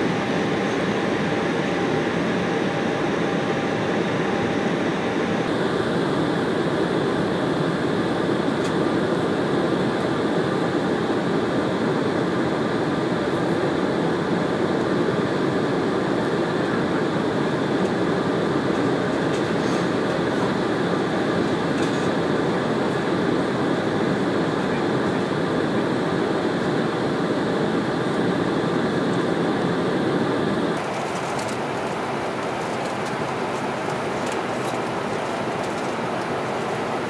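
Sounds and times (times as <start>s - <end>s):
airliner cabin engine and airflow: 0.0s - 37.0s.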